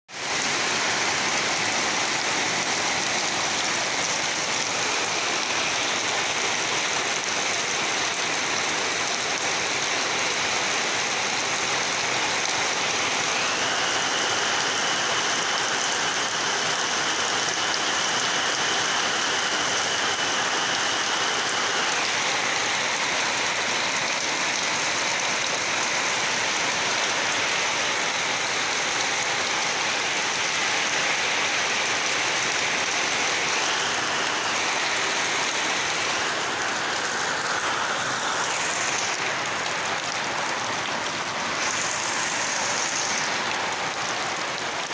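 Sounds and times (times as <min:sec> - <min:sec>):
heavy rain downpour: 0:00.1 - 0:44.9.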